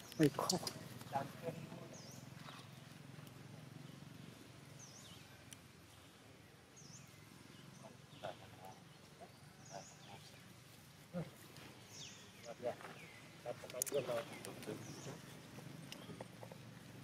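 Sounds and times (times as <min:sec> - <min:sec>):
bird calling: 0:00.0 - 0:17.0.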